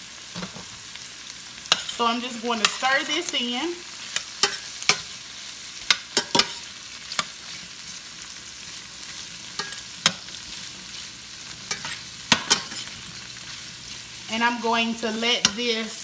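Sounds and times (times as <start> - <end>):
food sizzling in a skillet: 0.0 - 16.0
metal spoon scraping a pan: 1.6 - 5.2, 5.8 - 8.0, 8.7 - 16.0.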